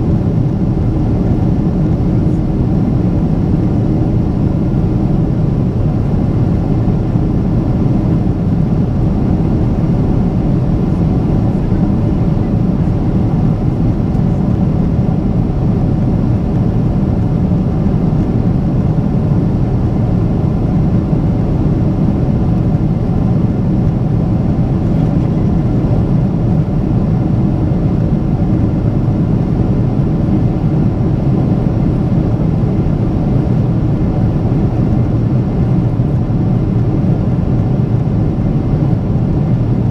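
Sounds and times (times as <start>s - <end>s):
aircraft cabin engine noise: 0.0s - 39.9s.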